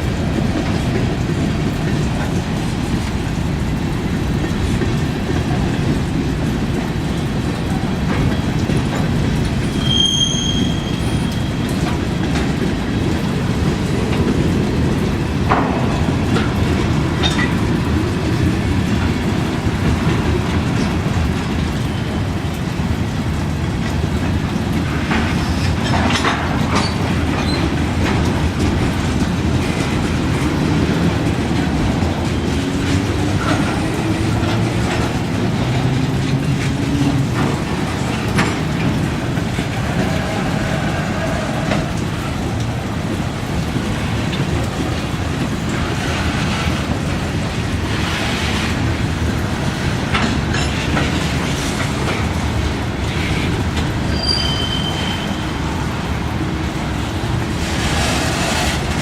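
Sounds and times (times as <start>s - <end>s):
train rumbling past: 0.0s - 59.0s
wheels clicking on rails: 0.0s - 59.0s.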